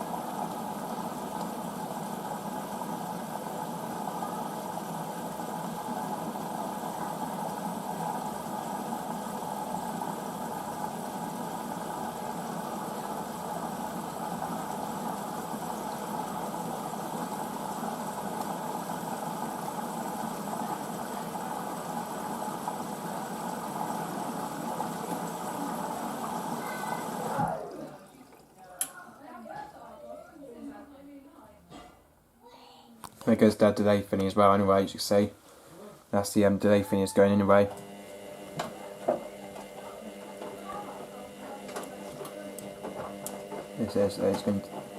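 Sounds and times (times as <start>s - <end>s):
washing machine running: 0.0s - 30.6s, 36.5s - 44.9s.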